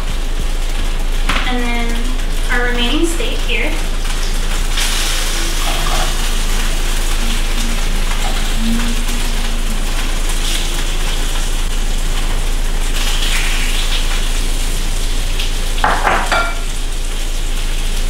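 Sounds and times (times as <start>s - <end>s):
steak sizzling in oil: 0.0s - 18.0s.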